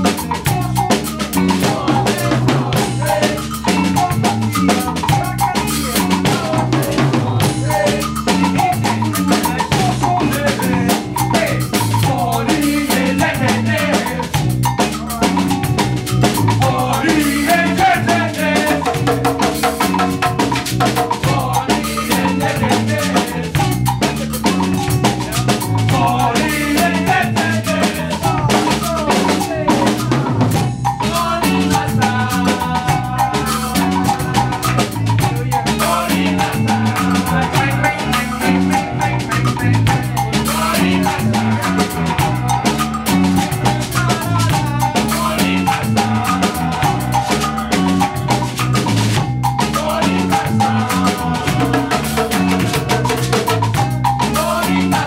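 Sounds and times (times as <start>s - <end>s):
congas and hand percussion: 0.0s - 55.0s
salsa band playing: 0.0s - 55.0s
voices singing: 0.0s - 55.0s.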